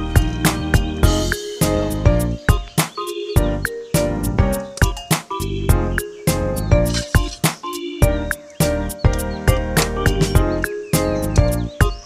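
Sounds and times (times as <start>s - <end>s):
melodic music with percussive beats: 0.0s - 12.0s.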